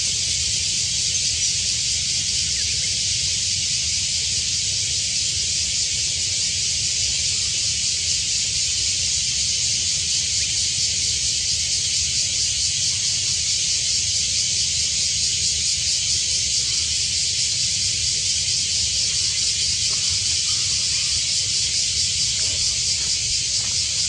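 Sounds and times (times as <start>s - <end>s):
high-pitched pulsing hiss: 0.0s - 24.0s.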